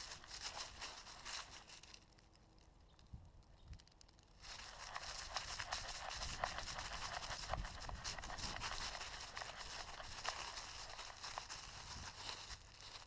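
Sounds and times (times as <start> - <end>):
rustling and crackling snaps: 0.0 - 13.0.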